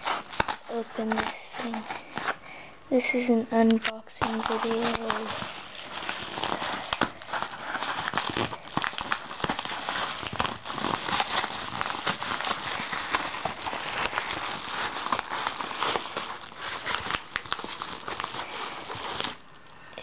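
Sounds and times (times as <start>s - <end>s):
packaging crinkling and crackling: 0.0s - 20.0s.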